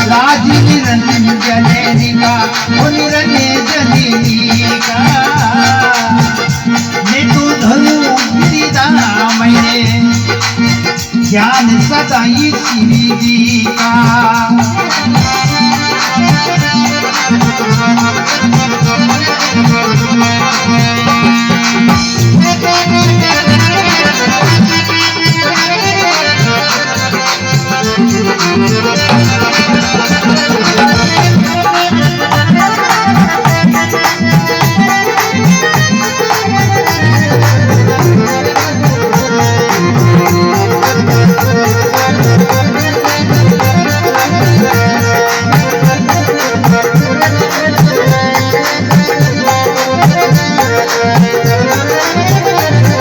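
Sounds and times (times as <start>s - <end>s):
hand drum beat: 0.0s - 53.0s
reed keyboard melody: 0.0s - 53.0s.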